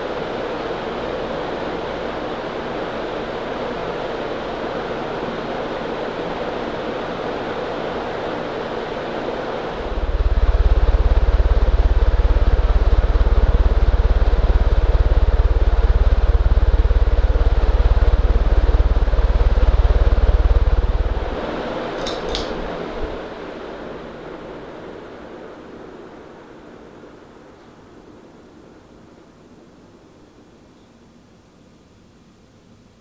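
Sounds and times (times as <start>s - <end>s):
ceiling fan running: 0.0s - 33.0s.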